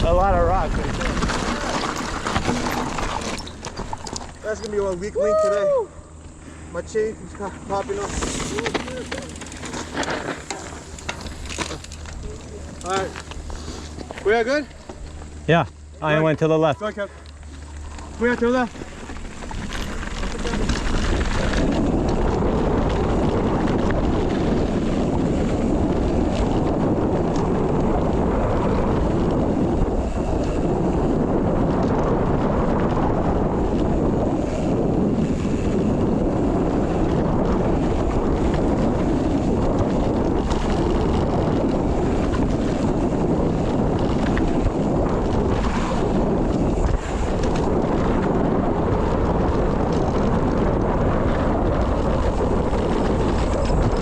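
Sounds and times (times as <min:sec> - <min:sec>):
bike knocks and rattles: 0:00.0 - 0:05.0, 0:07.6 - 0:15.4, 0:17.4 - 0:54.0
tyres rumbling on dirt and rock: 0:00.0 - 0:05.2, 0:07.0 - 0:54.0
wind buffeting microphone: 0:00.0 - 0:54.0.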